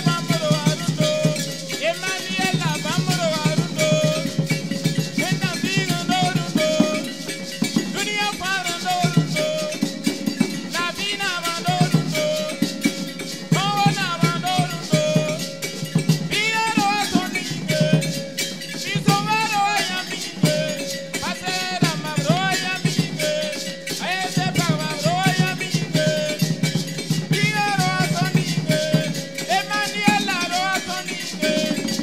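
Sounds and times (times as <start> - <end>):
man singing into a microphone: 0.0 - 32.0
percussion steady beat: 0.0 - 32.0.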